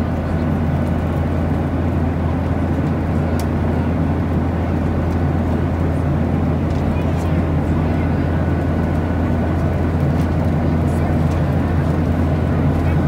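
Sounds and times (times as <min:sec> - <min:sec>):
airliner engine drone: 0:00.0 - 0:13.0.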